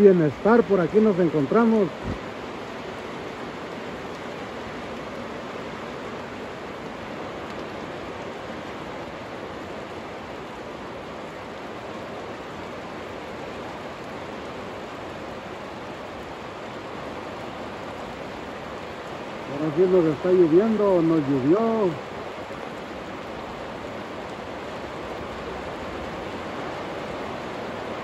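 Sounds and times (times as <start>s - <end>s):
steady rain pouring: 0.0s - 28.0s.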